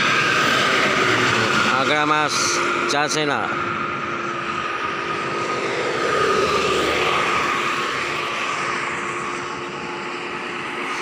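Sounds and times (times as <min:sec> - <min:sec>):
buses and trucks passing: 0:00.0 - 0:11.0.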